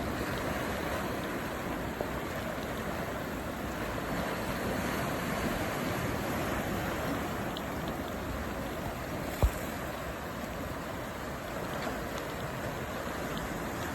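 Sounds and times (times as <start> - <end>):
waves breaking: 0.0 - 13.9
wind: 0.0 - 13.9.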